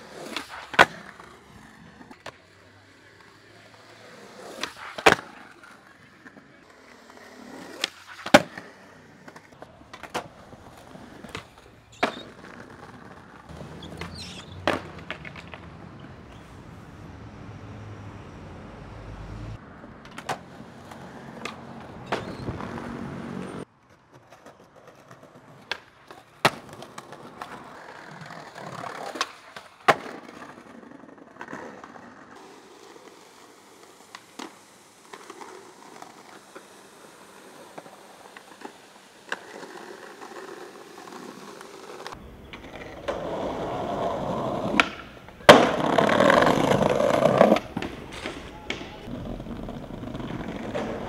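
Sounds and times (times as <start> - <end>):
skateboards rolling over paving: 0.0 - 17.0, 19.7 - 51.0
skateboard wooden clacks: 0.2 - 2.4, 4.4 - 16.4, 20.0 - 22.9, 23.8 - 51.0.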